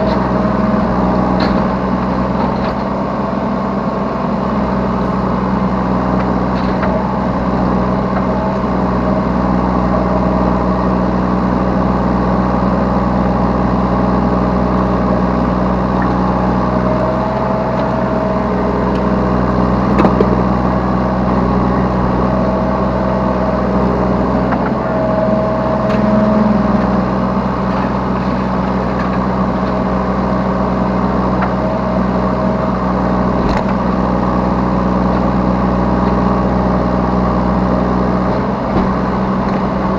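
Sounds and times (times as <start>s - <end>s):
diesel engine running: 0.0s - 39.9s
hydraulic whine: 0.0s - 39.9s.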